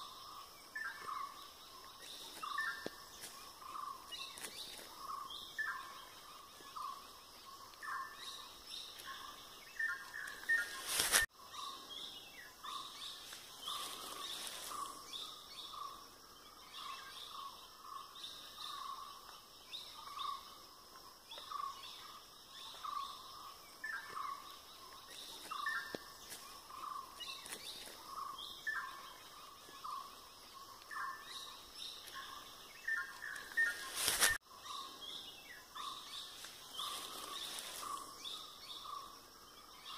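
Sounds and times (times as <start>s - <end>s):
birds calling and chirping: 0.0s - 39.9s.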